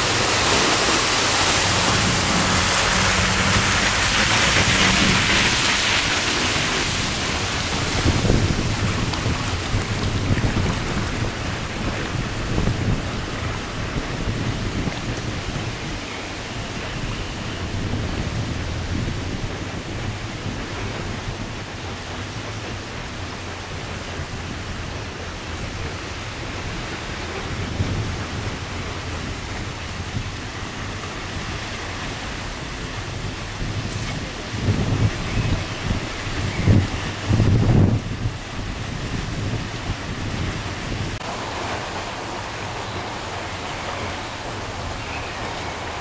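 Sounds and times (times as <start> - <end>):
floodwater rushing in stream: 0.0 - 46.0
wind buffeting microphone: 0.0 - 46.0.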